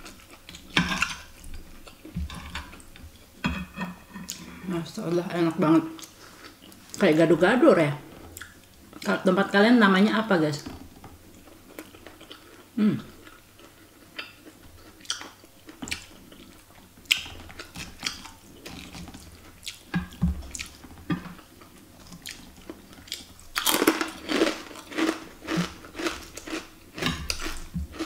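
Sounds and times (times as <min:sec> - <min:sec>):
person chewing: 0:00.0 - 0:03.2, 0:06.0 - 0:07.0, 0:08.1 - 0:09.1, 0:10.7 - 0:28.0.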